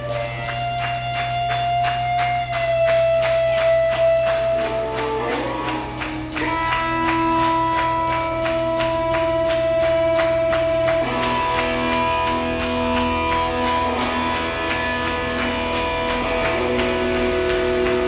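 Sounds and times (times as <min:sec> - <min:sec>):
bass guitar: 0:00.0 - 0:18.0
electric guitar sustained notes: 0:00.0 - 0:18.0.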